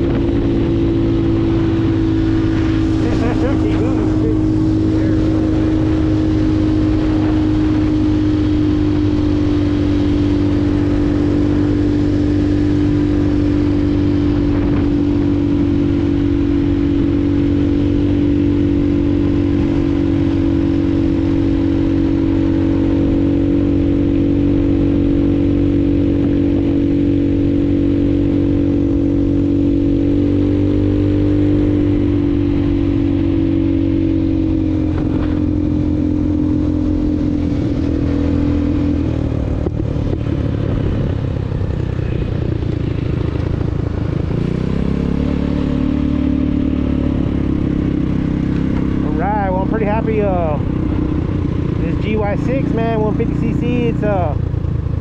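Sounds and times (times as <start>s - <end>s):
motorcycle engine droning: 0.0s - 55.0s.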